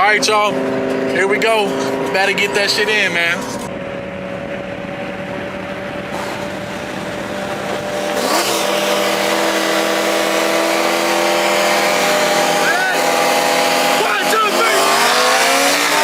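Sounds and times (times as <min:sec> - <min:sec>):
car engine heard from inside: 0:00.0 - 0:16.0.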